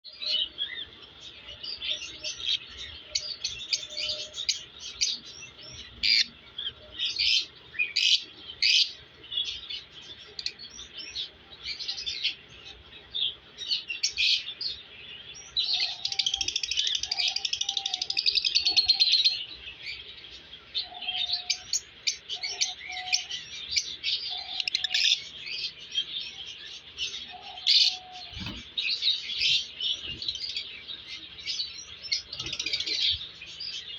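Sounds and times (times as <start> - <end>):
parrots chirping and chattering: 0.2 - 33.9.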